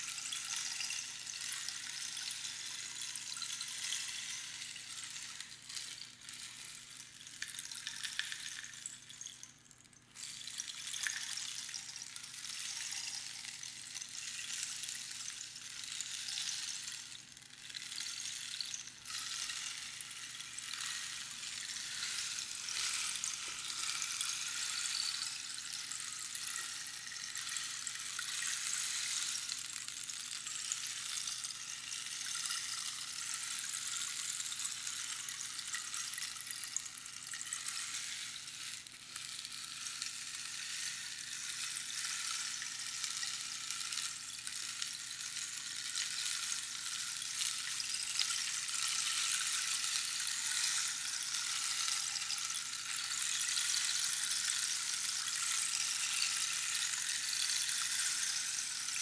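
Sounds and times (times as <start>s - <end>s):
rainstick hiss: 10.7s - 59.0s.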